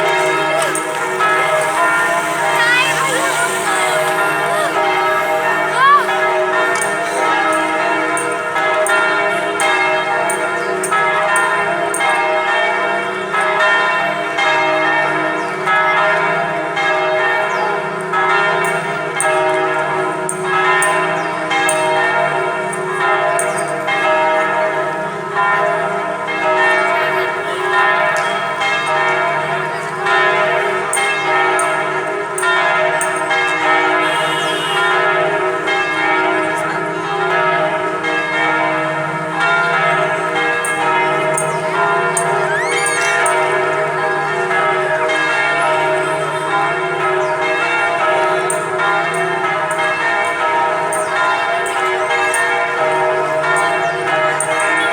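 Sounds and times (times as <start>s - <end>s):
church bells ringing a peal: 0.0s - 54.9s.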